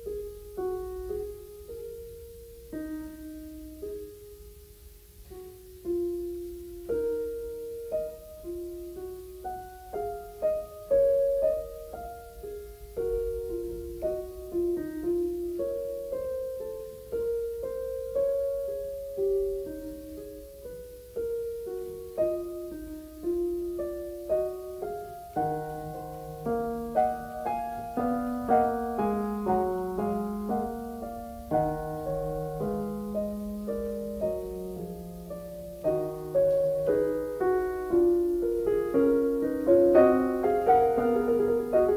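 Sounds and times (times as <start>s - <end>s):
low piano bass notes: 0.0s - 41.9s
slow piano melody: 0.0s - 41.9s.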